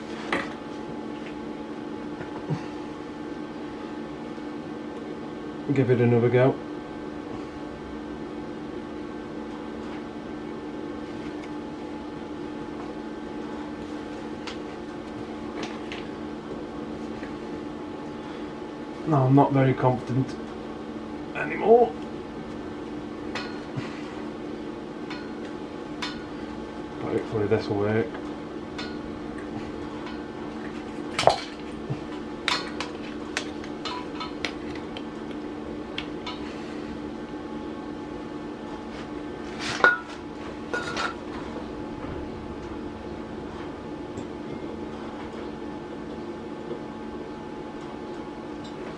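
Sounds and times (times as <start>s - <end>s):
welding set humming: 0.0s - 48.9s.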